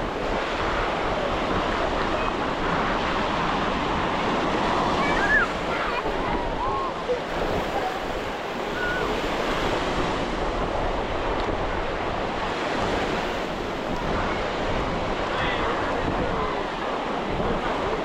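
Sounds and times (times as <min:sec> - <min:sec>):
ocean surf on sandy beach: 0:00.0 - 0:18.0
wind buffeting microphone: 0:00.0 - 0:18.0.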